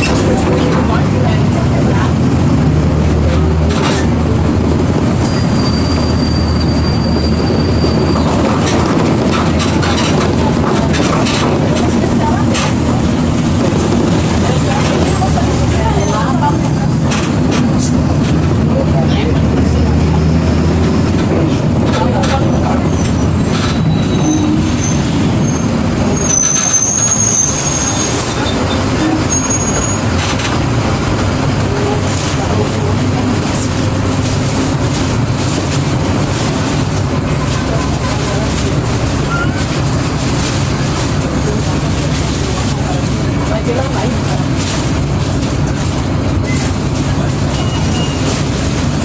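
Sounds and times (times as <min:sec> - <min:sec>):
bus engine droning: 0:00.0 - 0:49.0
road and body rattle: 0:00.0 - 0:49.0.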